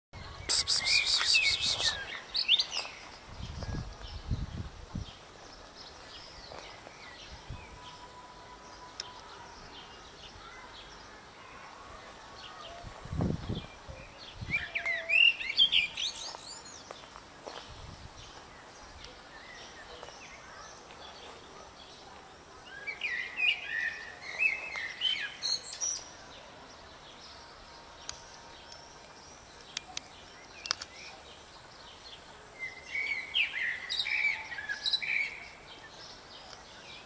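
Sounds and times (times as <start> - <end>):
small birds chirping: 0.2 - 37.0.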